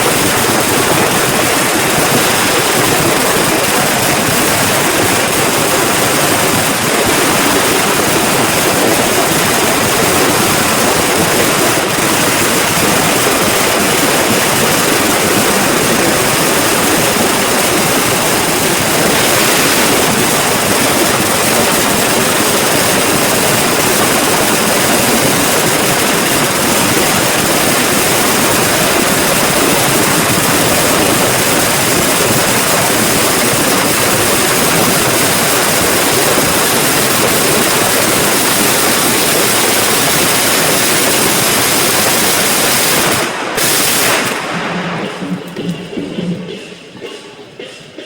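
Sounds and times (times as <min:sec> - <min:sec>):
firecrackers crackling: 0:00.0 - 0:47.6.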